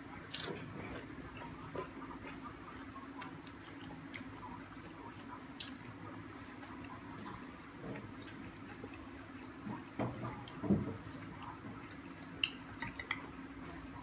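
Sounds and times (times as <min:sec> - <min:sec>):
steady low hum: 0:00.0 - 0:14.0
faint chewing and mouth clicks: 0:00.2 - 0:14.0.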